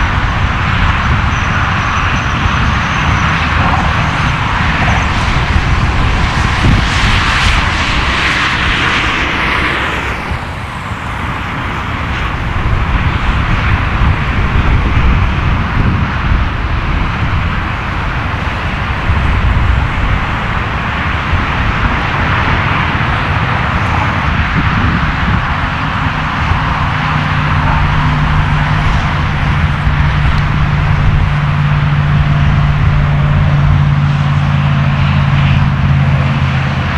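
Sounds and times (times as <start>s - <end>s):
jet airliner passing overhead: 0.0s - 36.9s.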